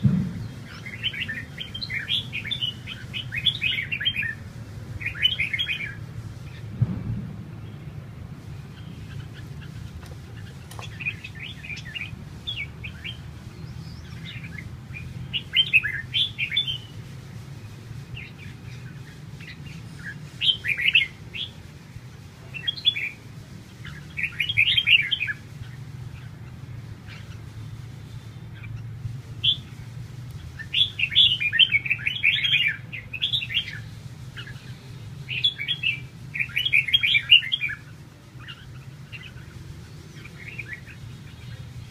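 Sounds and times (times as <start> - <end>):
birds singing chirpy phrases: 0.0 - 6.8, 7.5 - 41.9.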